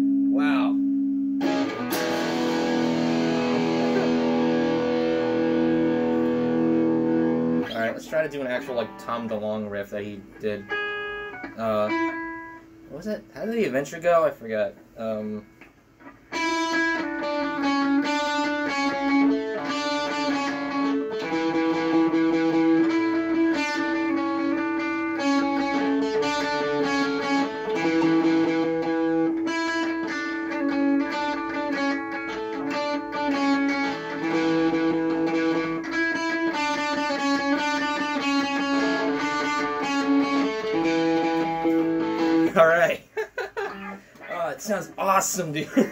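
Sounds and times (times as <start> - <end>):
electric guitar riff: 1.4 - 13.0, 15.0 - 42.9.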